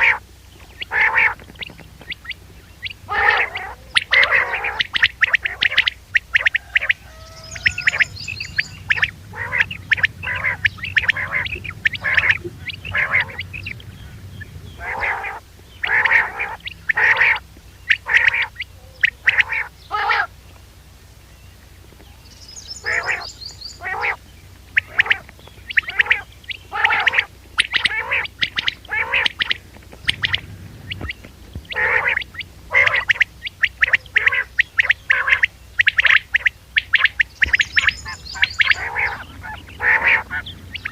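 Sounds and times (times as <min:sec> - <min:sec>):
low recording hum: 0:00.0 - 0:40.9
recorded quail calls: 0:00.0 - 0:40.9.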